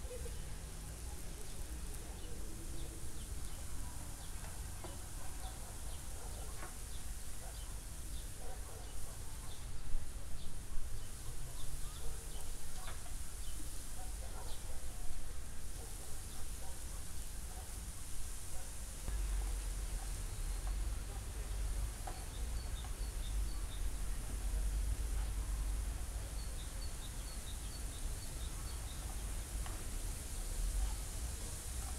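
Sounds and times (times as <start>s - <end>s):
vegetables sizzling in a frying pan: 6.0s - 31.9s.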